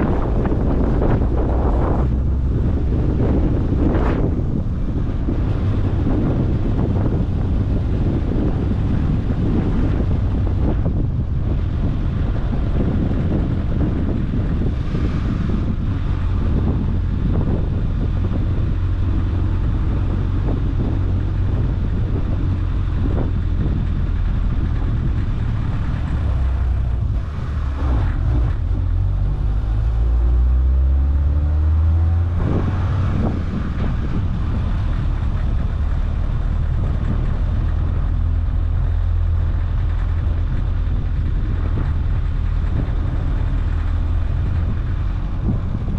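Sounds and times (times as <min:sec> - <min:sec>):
car engine and road rumble: 0:00.0 - 0:45.9
wind noise: 0:00.0 - 0:45.9.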